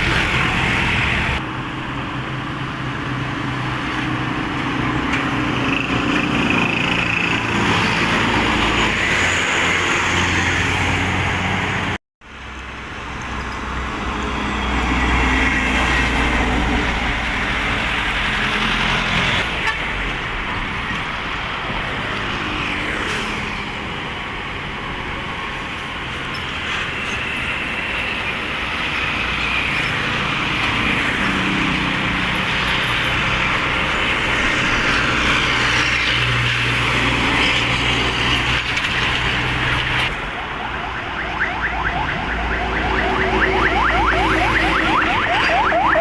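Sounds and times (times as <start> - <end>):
highway traffic passing: 0.0 - 46.0.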